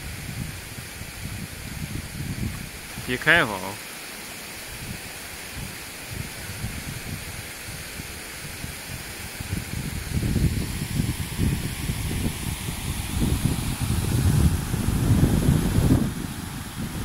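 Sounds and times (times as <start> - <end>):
wind buffeting microphone: 0.0 - 3.2, 4.7 - 17.0
rushing water of stream: 0.0 - 17.0.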